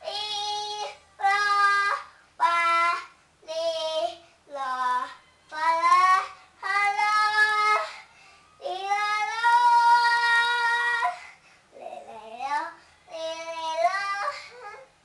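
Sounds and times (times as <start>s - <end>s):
boy singing unaccompanied: 0.0s - 14.9s.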